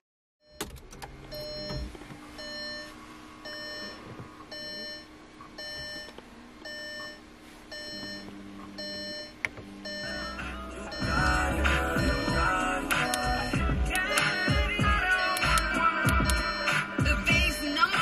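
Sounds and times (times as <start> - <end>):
car warning chime beeping: 0.4 - 18.0.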